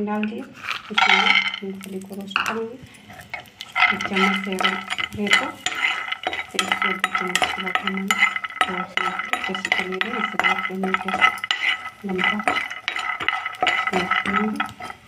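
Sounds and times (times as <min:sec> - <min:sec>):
metal spatula scraping a pan: 0:00.2 - 0:15.0.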